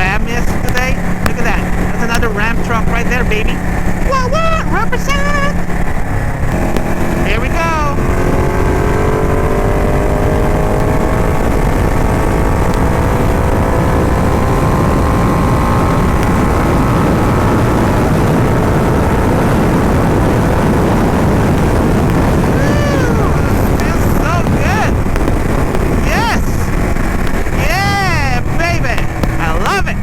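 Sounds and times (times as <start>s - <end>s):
motorcycle engine accelerating: 0.0s - 30.0s
wind and road noise: 0.0s - 30.0s.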